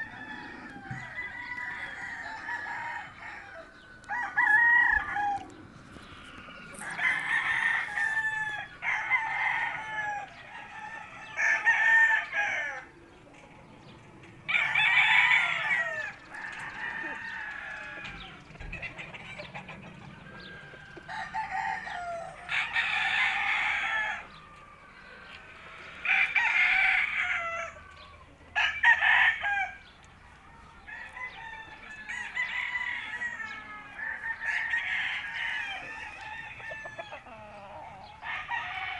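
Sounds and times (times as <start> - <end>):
roosters crowing: 0.0 - 38.9.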